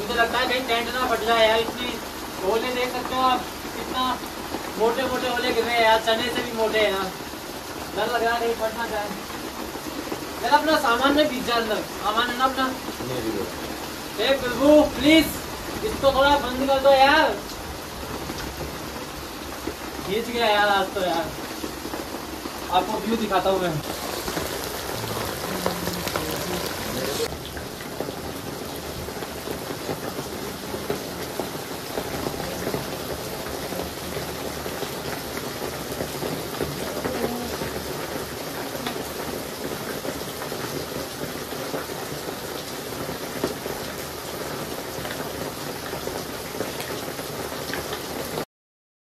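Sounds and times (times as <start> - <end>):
rain falling: 0.0 - 48.5.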